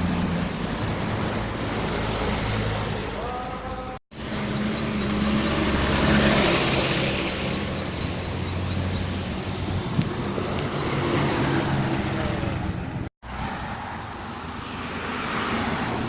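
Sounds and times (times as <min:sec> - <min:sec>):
bus passing: 0:00.0 - 0:16.0
traffic noise: 0:00.0 - 0:16.0.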